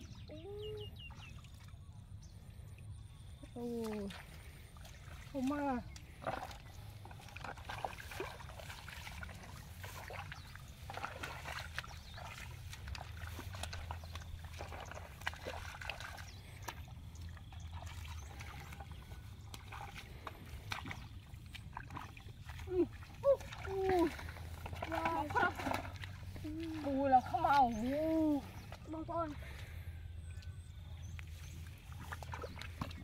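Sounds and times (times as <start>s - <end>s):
footsteps wading through water: 0.0s - 33.0s.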